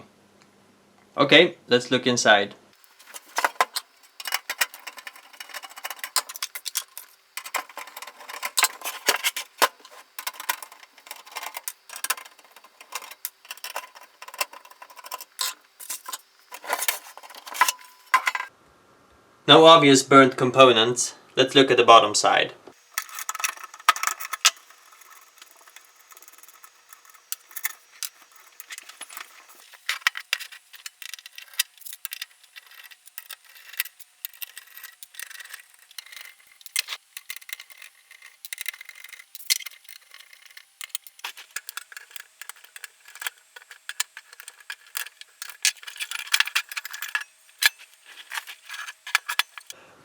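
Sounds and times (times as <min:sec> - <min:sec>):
hands handling metal case: 0:02.8 - 0:18.5, 0:22.8 - 0:37.6, 0:39.4 - 0:49.8.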